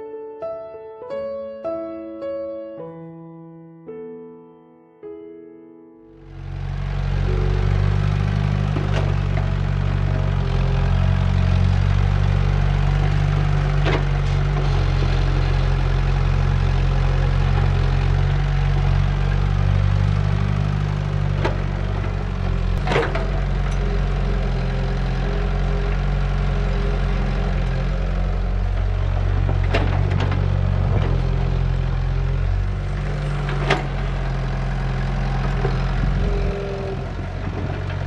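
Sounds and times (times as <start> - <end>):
excavator diesel engine running: 6.2 - 38.0.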